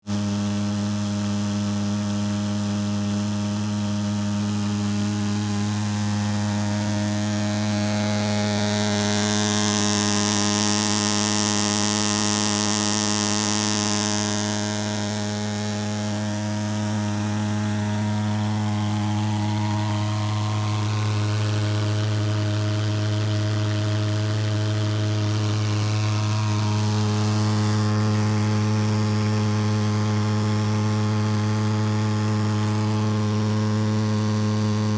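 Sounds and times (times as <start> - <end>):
pulsejet engine buzzing: 0.1 - 34.9.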